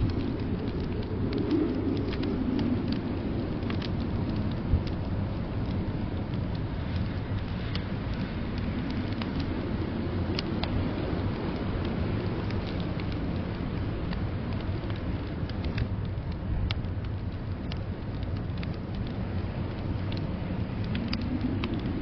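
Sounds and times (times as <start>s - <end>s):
fire pops: 0.0s - 22.0s
low rumble of blizzard wind: 0.0s - 22.0s
wood fire crackling: 0.0s - 22.0s.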